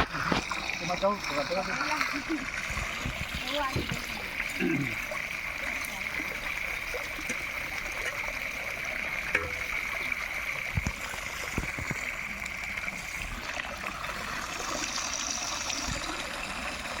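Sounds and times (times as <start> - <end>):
water running and trickling: 0.0 - 17.0.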